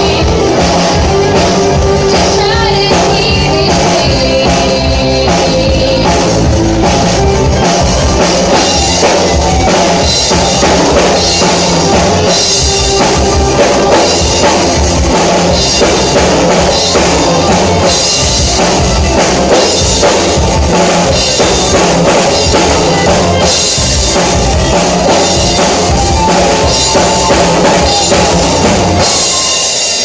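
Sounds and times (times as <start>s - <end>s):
drum kit beat: 0.0s - 30.0s
live rock band playing: 0.0s - 30.0s.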